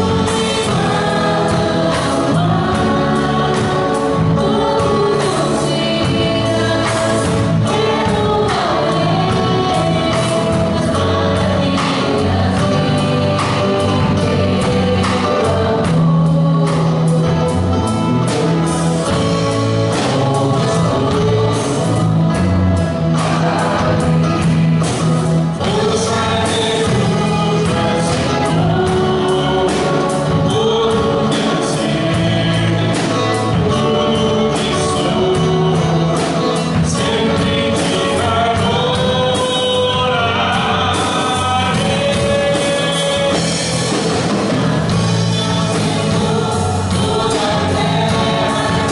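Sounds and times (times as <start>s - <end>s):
band with drums guitars keyboard: 0.0s - 48.9s
male and female singers: 0.0s - 48.9s.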